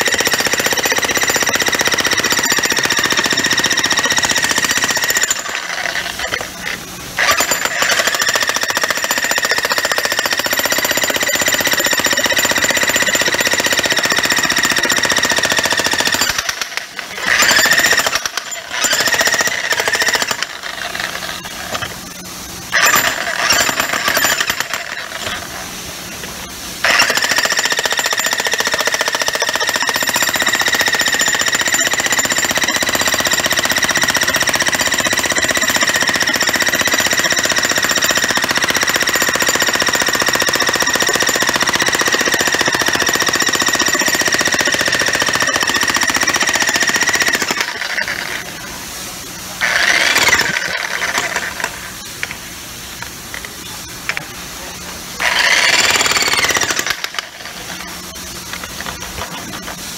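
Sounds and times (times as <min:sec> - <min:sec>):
electric breaker hammer running: 0:00.0 - 0:25.5, 0:26.8 - 0:48.5, 0:49.6 - 0:51.8, 0:55.2 - 0:57.9.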